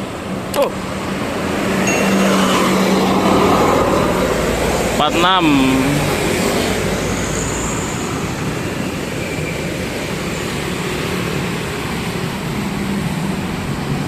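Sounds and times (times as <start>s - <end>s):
heavy vehicle engine humming: 0.0s - 14.0s
road traffic noise: 0.0s - 14.0s.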